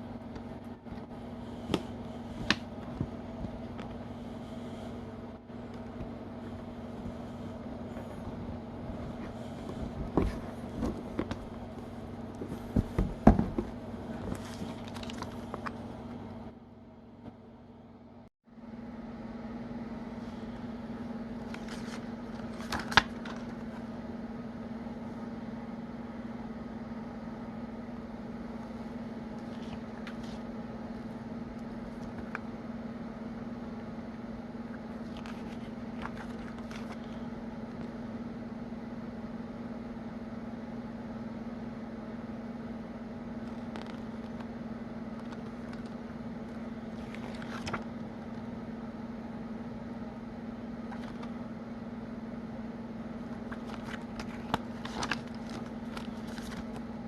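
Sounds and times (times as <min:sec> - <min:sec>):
steady electrical hum: 0:00.0 - 0:57.0.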